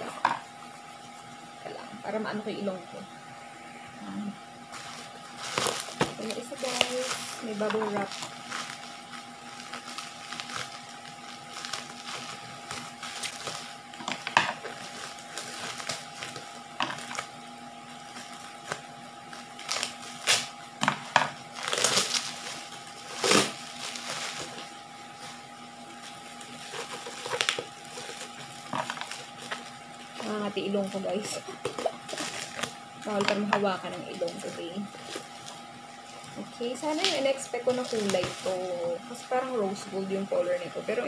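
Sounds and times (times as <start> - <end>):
faint steady hum: 0.0 - 41.0
bubble wrap crinkling: 4.6 - 41.0.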